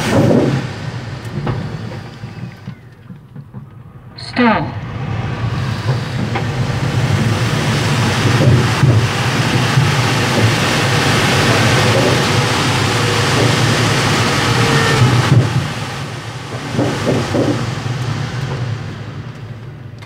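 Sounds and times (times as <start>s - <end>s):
rush of air over glider: 0.0s - 20.0s.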